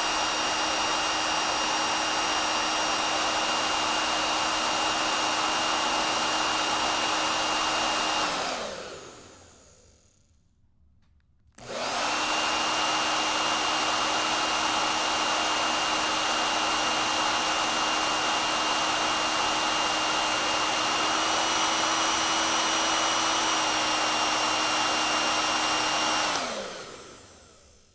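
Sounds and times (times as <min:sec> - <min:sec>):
hair dryer blowing: 0:00.0 - 0:10.3, 0:11.6 - 0:27.9
hair dryer motor winding down: 0:00.0 - 0:10.3, 0:11.6 - 0:27.9.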